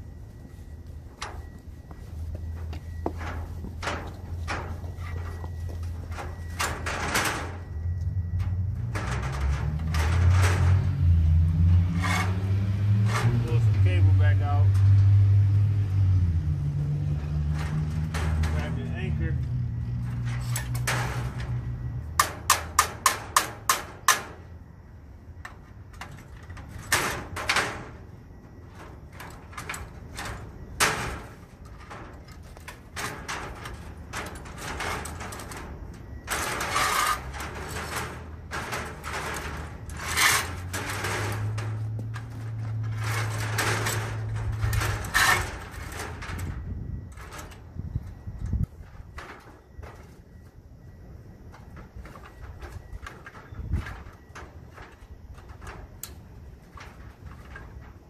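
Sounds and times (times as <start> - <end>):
clanks rattles and scrapes: 0.0 - 24.7, 25.3 - 50.7, 51.4 - 58.0.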